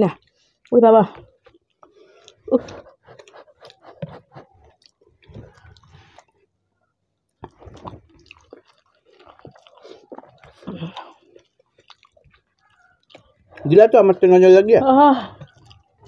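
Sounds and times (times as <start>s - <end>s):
chewing and wet mouth sounds: 0.1s - 14.1s, 15.2s - 16.0s
fingers squishing food: 0.2s - 13.7s, 15.3s - 16.0s.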